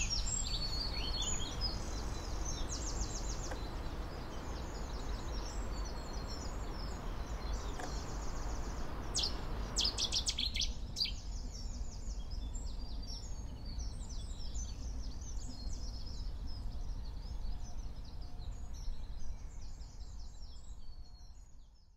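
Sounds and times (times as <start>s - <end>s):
low background rumble: 0.0s - 21.4s
songbirds chirping and trilling: 0.0s - 21.9s.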